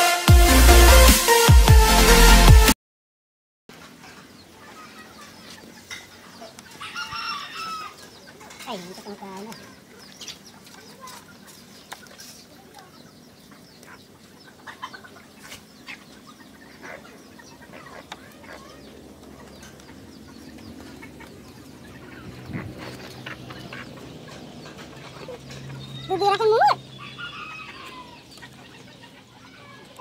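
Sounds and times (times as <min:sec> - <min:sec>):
chickens clucking: 0:03.7 - 0:30.0.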